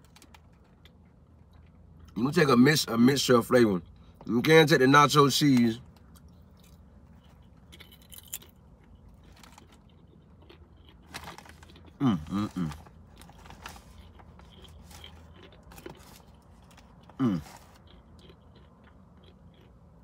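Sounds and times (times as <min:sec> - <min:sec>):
chewing crunchy chips: 0:00.0 - 0:02.3, 0:05.7 - 0:20.0.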